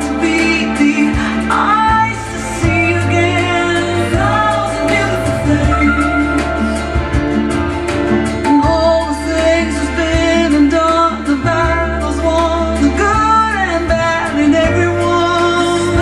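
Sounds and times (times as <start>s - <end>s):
song with singing and beat: 0.0s - 16.0s.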